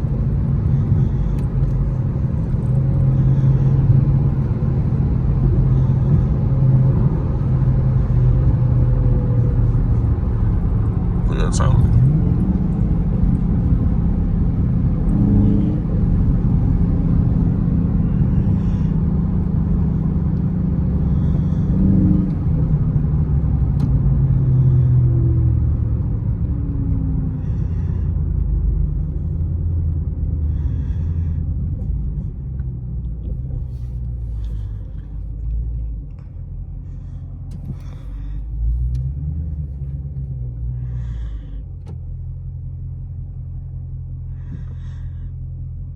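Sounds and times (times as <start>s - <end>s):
car engine low rumble: 0.0s - 45.9s.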